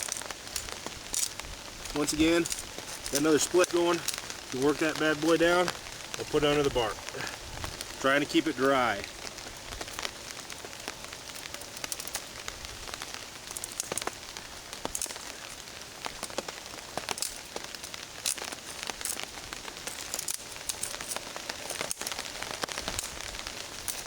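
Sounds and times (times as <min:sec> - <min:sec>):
rain falling on a tarp: 0:00.0 - 0:24.0.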